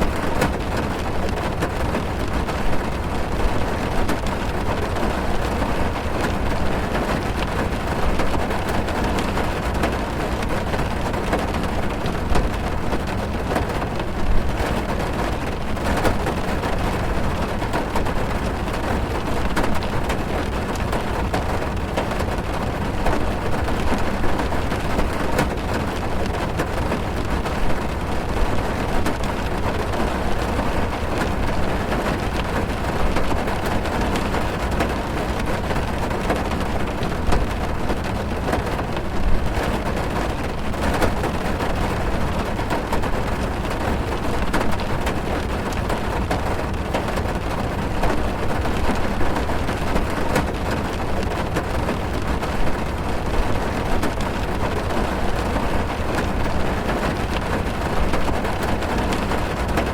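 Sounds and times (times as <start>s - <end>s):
heavy rain drumming on car roof: 0.0s - 59.9s.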